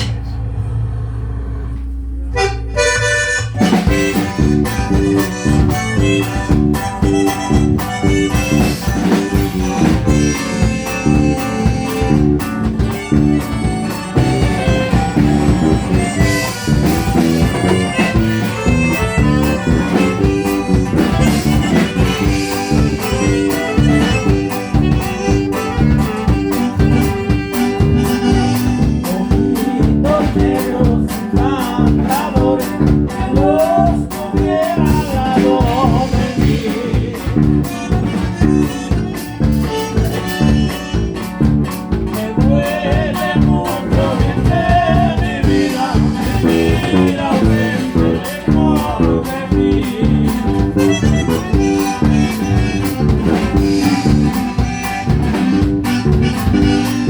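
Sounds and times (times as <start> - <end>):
pulsing bass: 0.0 - 57.0
strummed strings: 2.2 - 33.4, 34.2 - 57.0
button accordion melody: 2.3 - 33.8, 34.6 - 57.0.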